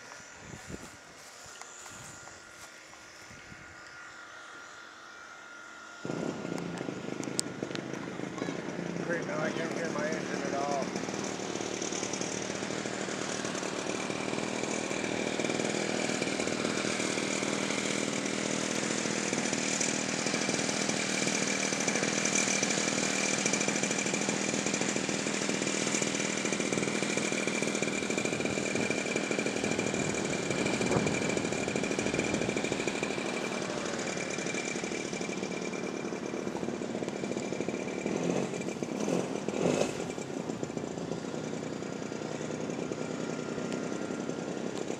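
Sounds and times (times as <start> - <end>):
model airplane motor whining: 0.0 - 44.9.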